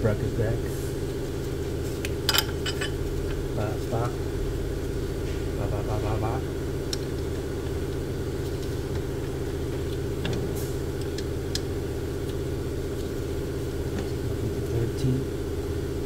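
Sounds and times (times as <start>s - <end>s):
engine droning hum: 0.0s - 16.0s.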